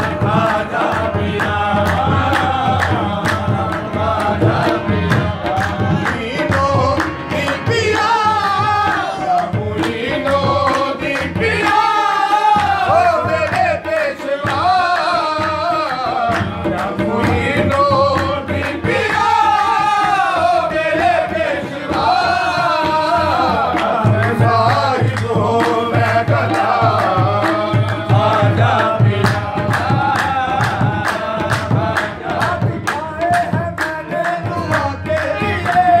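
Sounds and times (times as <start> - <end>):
hand-clapping: 0.0 - 21.1, 21.9 - 36.0
hand drums: 0.0 - 36.0
harmoniums: 0.0 - 36.0
male voices singing: 0.0 - 36.0.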